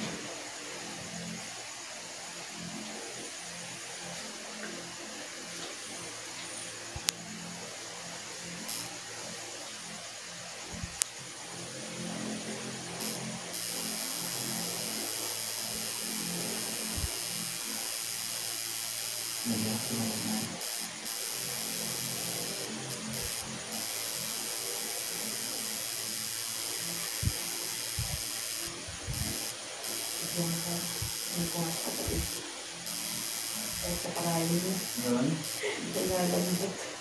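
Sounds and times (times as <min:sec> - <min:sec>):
tattoo machine buzzing: 0:06.9 - 0:37.0.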